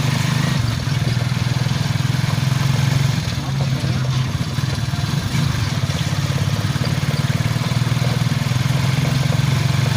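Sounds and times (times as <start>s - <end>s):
small engine chugging: 0.0s - 9.9s.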